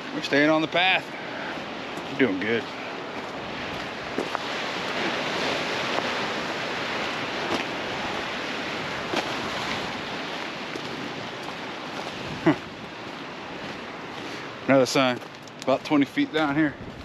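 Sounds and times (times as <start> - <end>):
ocean surf: 0.0 - 17.0
wind on microphone: 1.1 - 14.7, 16.6 - 17.0.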